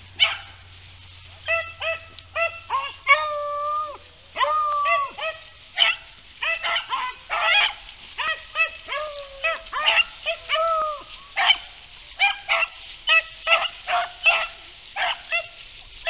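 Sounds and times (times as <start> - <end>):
hounds baying: 0.0 - 16.0.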